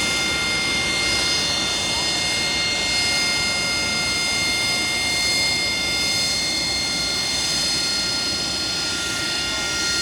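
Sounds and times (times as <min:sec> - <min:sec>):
aircraft engine whining: 0:00.0 - 0:10.0.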